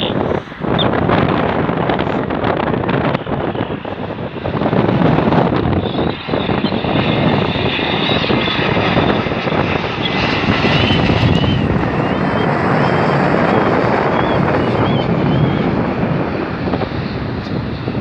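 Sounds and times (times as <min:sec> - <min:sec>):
high jet engine whine: 0:00.0 - 0:18.0
jet engine rushing noise: 0:00.0 - 0:18.0.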